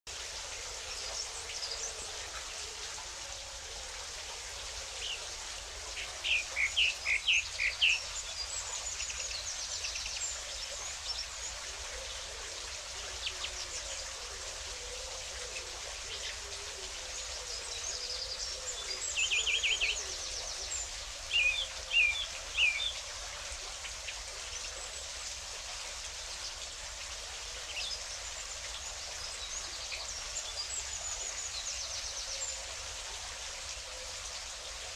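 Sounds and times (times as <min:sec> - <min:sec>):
running water: 0:00.1 - 0:34.9.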